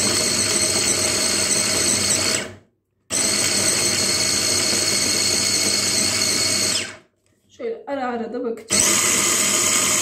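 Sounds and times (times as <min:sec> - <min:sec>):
hand blender motor whining: 0:00.0 - 0:07.0, 0:08.7 - 0:10.0.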